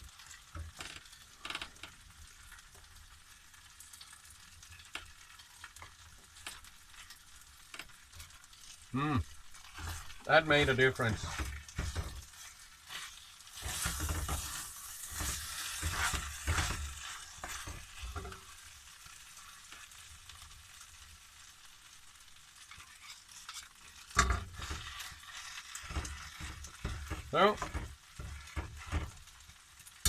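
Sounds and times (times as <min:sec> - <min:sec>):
rice sizzling: 0:00.0 - 0:30.0
spatula scraping frying pan: 0:03.6 - 0:20.8, 0:22.3 - 0:30.0.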